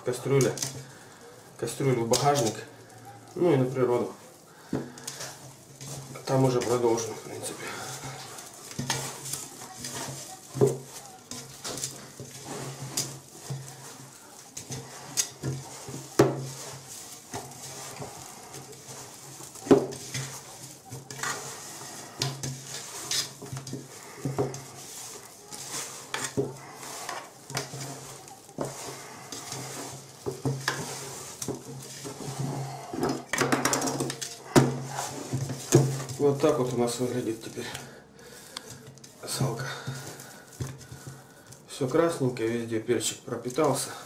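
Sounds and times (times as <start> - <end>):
metal pot clattering: 0.0 - 37.8.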